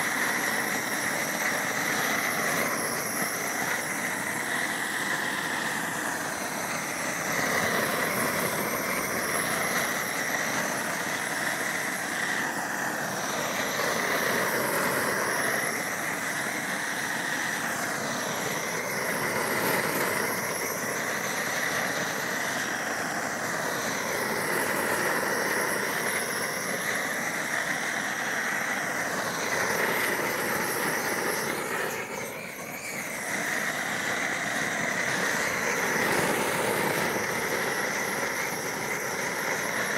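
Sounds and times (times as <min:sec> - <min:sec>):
propane torch flame roaring: 0:00.0 - 0:39.9.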